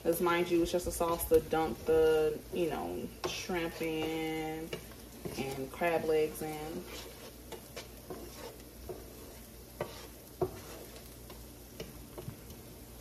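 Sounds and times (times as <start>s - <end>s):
garlic and onions sizzling: 0.0s - 13.0s.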